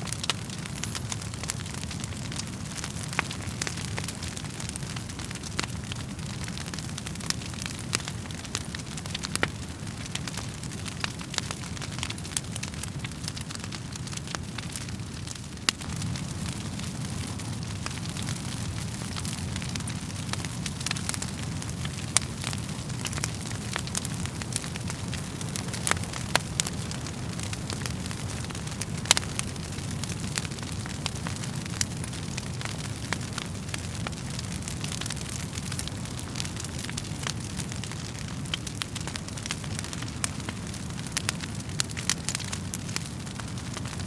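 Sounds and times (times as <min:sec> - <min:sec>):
crackles and pops of burning logs: 0:00.0 - 0:44.0
low rumble of flames: 0:00.0 - 0:44.0.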